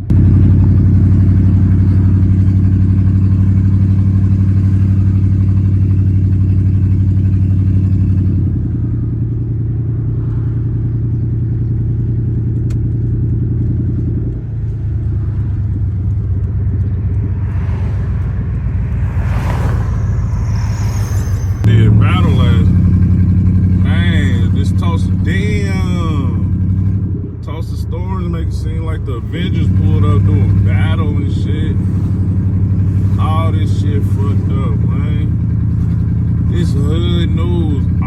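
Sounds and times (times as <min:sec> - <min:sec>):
car engine and road drone: 0:00.0 - 0:38.0.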